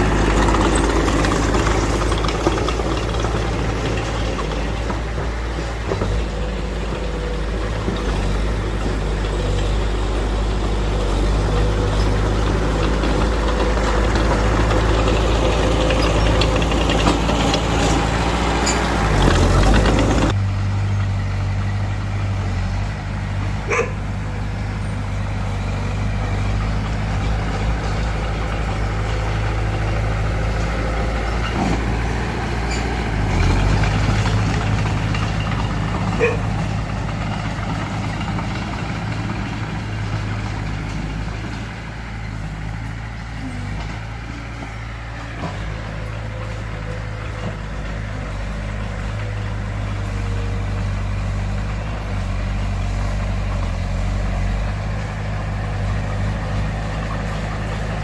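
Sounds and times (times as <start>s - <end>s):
low diesel engine drone: 0.0s - 58.0s
rough high-pitched machinery noise: 0.0s - 58.0s.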